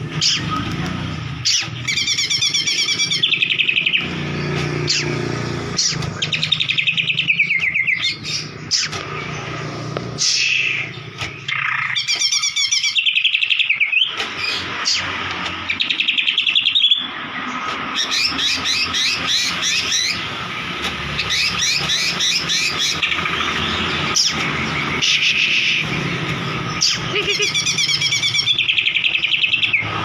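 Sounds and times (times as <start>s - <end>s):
songbird chattering and trilling: 0.0s - 30.0s.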